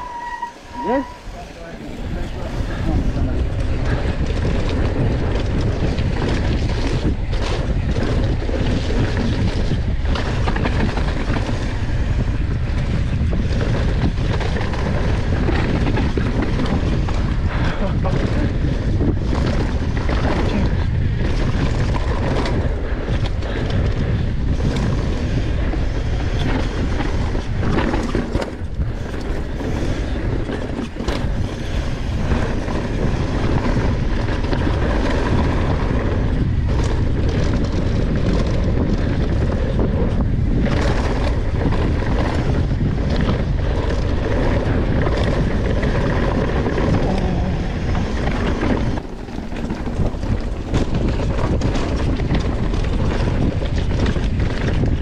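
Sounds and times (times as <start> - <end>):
bike rattling: 0.0 - 55.0
tyre noise on dirt: 0.0 - 55.0
wind buffeting microphone: 0.0 - 55.0.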